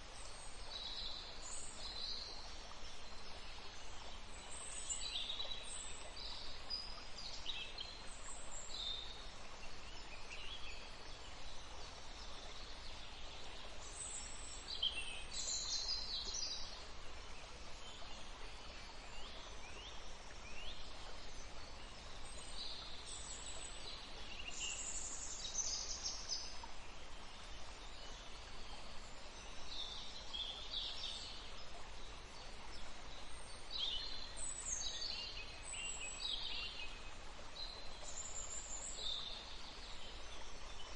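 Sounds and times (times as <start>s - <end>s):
faint steady hiss: 0.0s - 40.9s.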